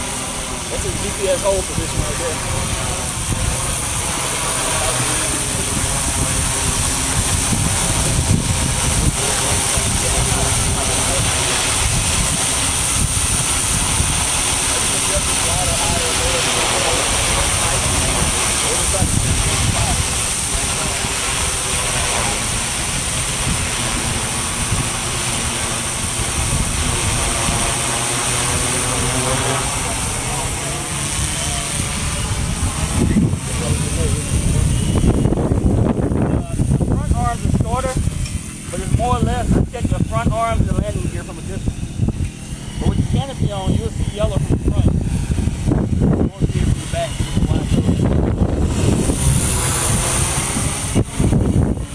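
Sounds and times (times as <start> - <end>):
quadcopter hovering whir: 0.0 - 51.9
wind buffeting microphone: 0.0 - 51.9.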